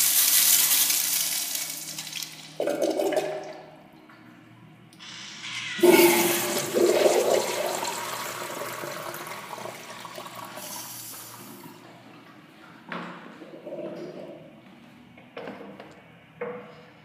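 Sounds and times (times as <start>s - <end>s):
urinal flushing: 0.0s - 14.9s.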